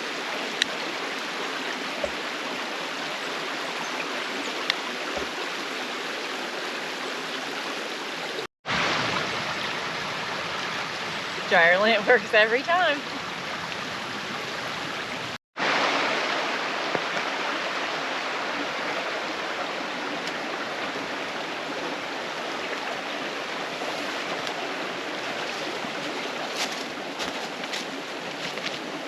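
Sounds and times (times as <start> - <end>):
creek water rushing: 0.0 - 29.0.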